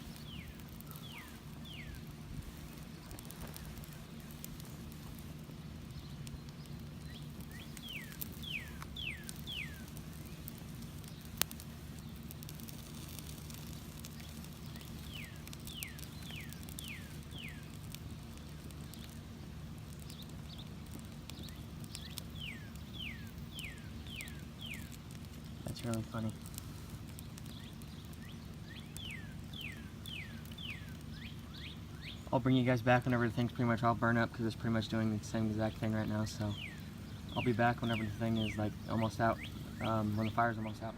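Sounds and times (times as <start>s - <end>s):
melting plastic crackling in fire: 0.0s - 40.9s
steady low hum: 0.0s - 40.9s.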